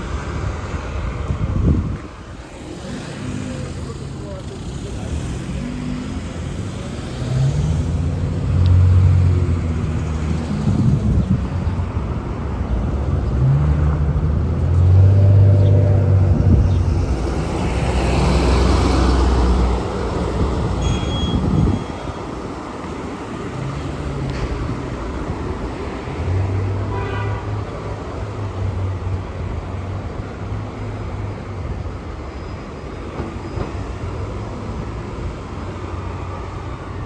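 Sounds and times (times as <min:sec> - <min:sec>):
heavy vehicles passing: 0:00.0 - 0:37.0
tyre and road noise: 0:00.0 - 0:37.0.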